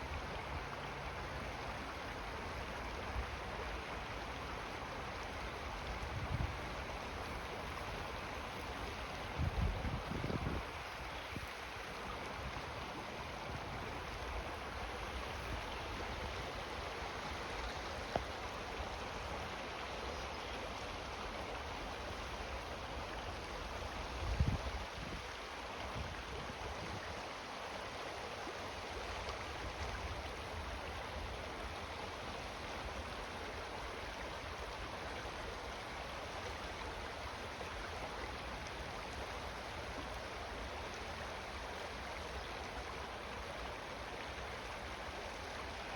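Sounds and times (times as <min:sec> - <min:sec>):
flowing water rushing: 0:00.0 - 0:45.9.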